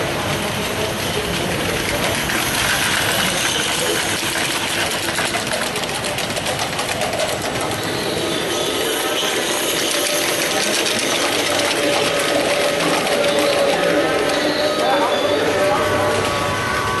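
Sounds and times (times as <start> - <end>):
model train wheels clattering: 0.0 - 15.3.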